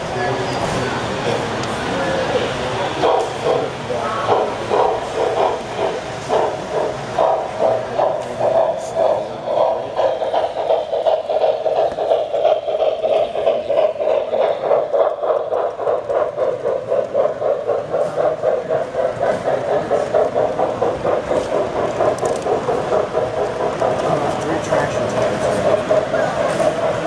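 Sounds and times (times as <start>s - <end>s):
model train rolling on metal track: 0.0s - 27.0s.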